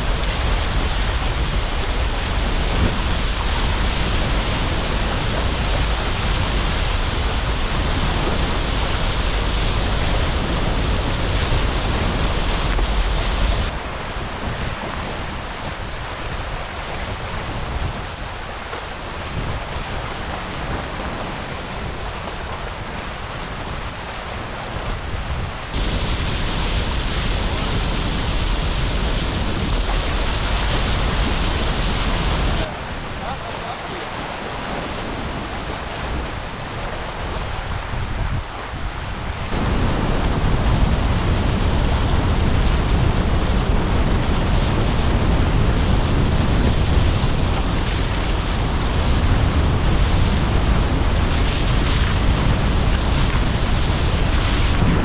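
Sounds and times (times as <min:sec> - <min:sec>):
rushing water and spray: 0:00.0 - 0:55.0
wind buffeting microphone: 0:00.0 - 0:55.0.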